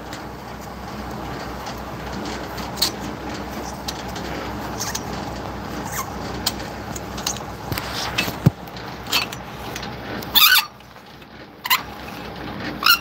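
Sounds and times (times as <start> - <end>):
truck engine idling: 0.0 - 13.0
squeaky rattle: 0.2 - 13.0.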